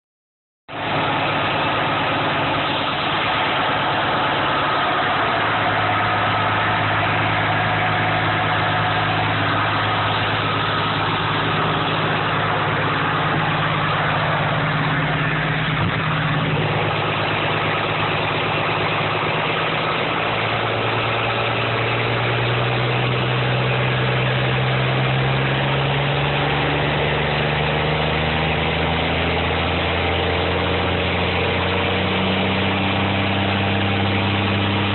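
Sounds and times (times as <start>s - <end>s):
engine idling: 0.7s - 34.9s.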